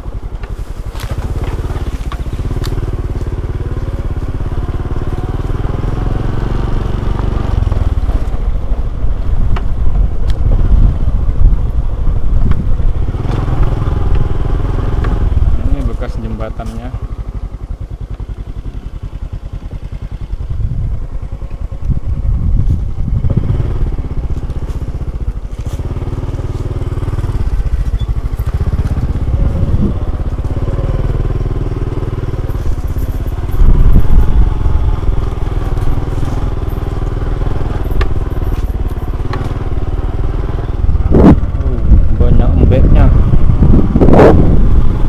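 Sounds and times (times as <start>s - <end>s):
small motorcycle engine running: 0.0s - 45.0s.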